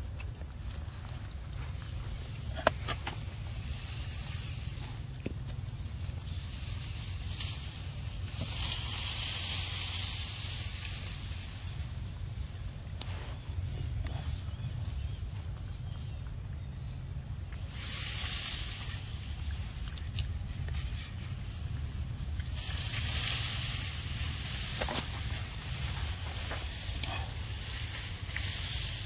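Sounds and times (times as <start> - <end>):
rustling gusts of wind: 0.0 - 16.4, 17.1 - 29.0.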